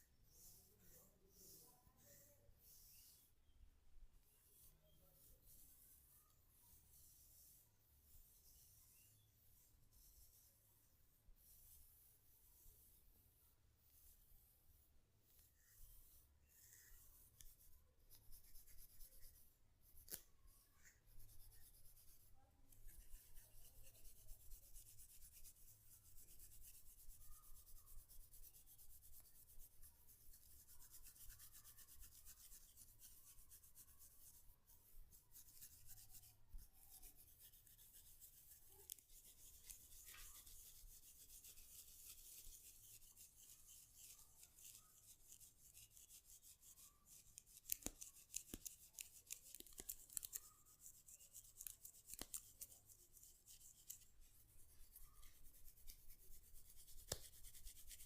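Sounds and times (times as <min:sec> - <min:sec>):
scratchy rubbing on hair: 0:00.2 - 0:03.4, 0:04.2 - 0:58.0.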